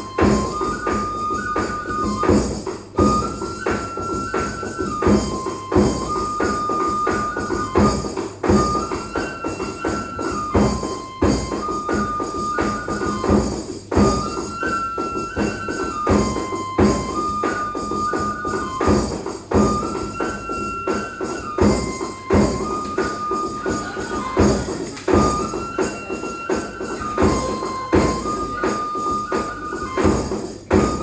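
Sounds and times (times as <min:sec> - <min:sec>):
bamboo flute playing held notes: 0:00.0 - 0:31.0.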